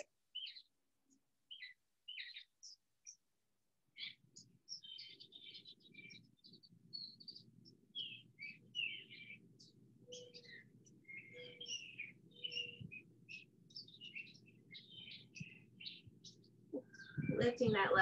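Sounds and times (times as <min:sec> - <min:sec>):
songbirds chirping and singing: 0:00.0 - 0:03.3, 0:03.9 - 0:18.0.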